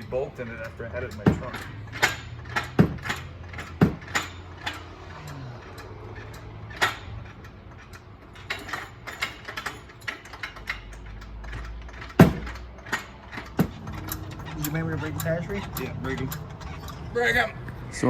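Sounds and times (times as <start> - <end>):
hand tools clicking on metal: 0.0 - 18.0
metal clanks: 0.0 - 18.0.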